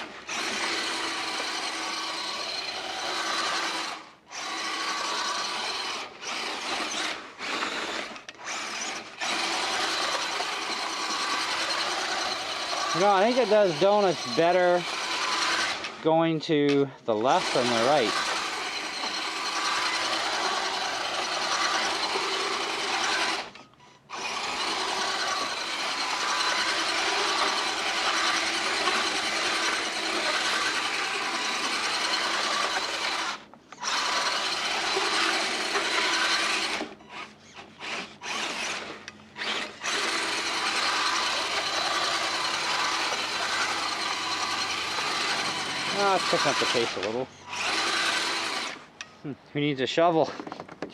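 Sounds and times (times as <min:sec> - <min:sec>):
rc truck motor whining: 0:00.0 - 0:16.1, 0:17.1 - 0:49.3.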